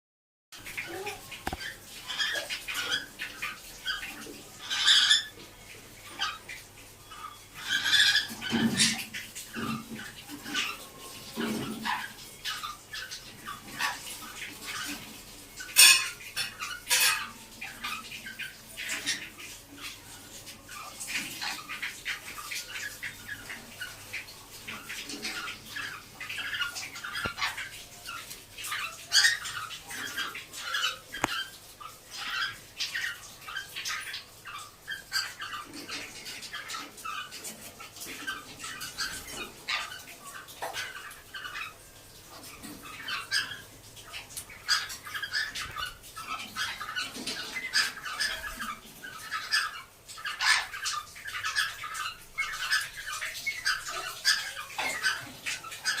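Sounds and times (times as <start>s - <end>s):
cockatiels chirping and squawking: 0.8s - 56.0s.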